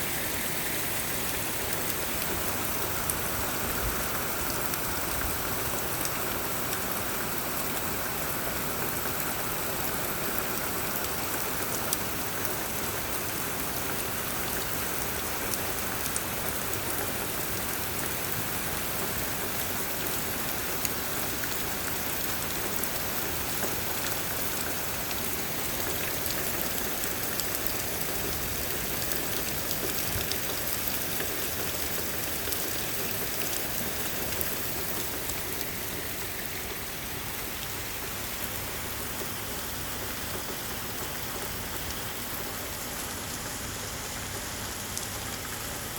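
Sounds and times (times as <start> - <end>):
heavy rain on a roof: 0.0 - 45.9.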